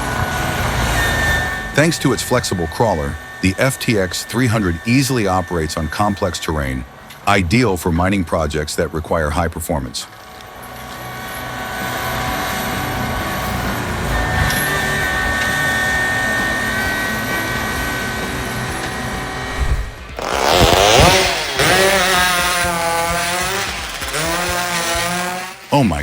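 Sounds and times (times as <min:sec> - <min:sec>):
forestry mulcher running under load: 0:00.0 - 0:26.0
saw engine revving: 0:00.0 - 0:26.0.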